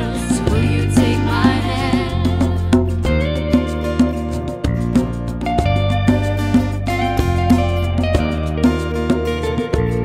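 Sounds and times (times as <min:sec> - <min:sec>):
upbeat music: 0:00.0 - 0:10.0.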